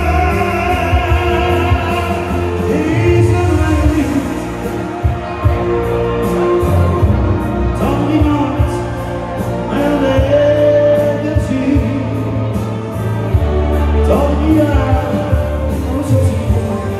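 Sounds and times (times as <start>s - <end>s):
person singing: 0.0s - 16.9s.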